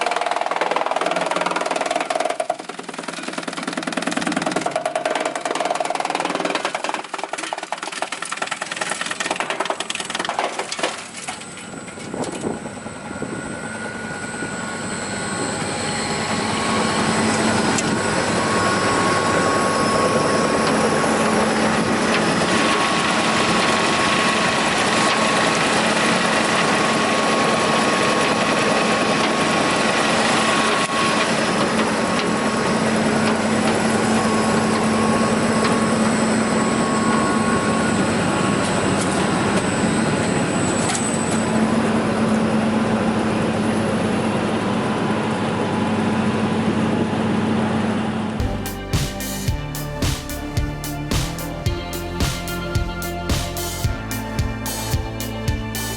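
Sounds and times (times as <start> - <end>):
wood chipper running: 0.0 - 45.8, 48.4 - 55.9.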